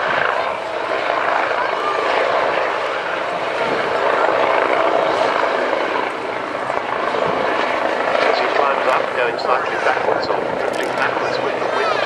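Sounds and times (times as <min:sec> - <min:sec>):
helicopter rotors and engine: 0:00.0 - 0:12.0.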